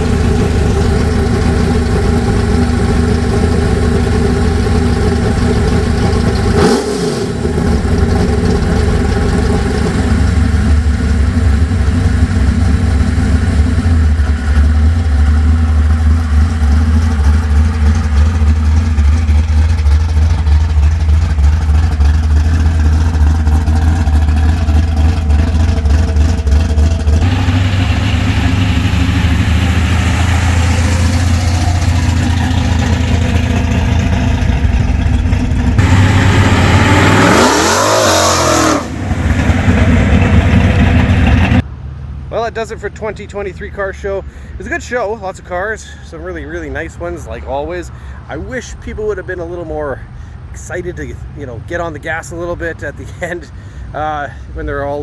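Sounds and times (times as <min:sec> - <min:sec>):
car engines idling and moving off: 0:00.0 - 0:55.0.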